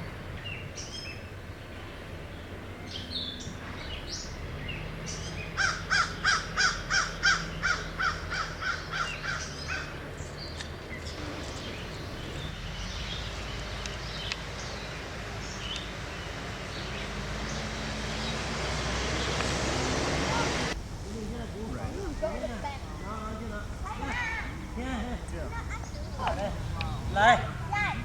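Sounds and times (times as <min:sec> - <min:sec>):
harsh bird calls: 0:00.0 - 0:28.0.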